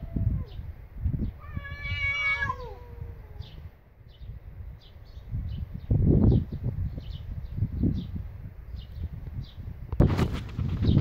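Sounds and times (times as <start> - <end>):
wind buffeting microphone: 0.0 - 11.0
small birds chirping: 0.3 - 9.7.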